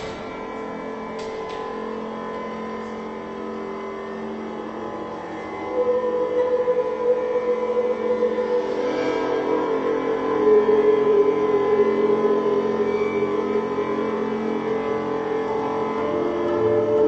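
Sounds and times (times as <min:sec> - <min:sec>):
electronic drone music: 0:00.0 - 0:17.0.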